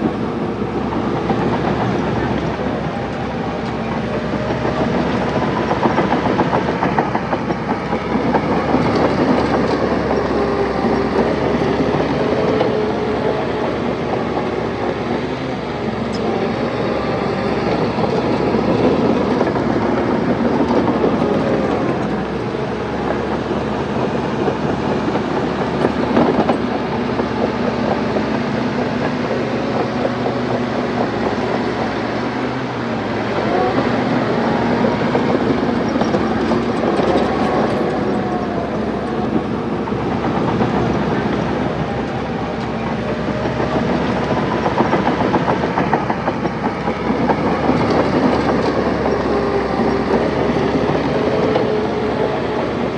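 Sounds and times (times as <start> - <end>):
bulldozer diesel engine: 0.0 - 52.9
steel tracks clattering: 0.0 - 52.9.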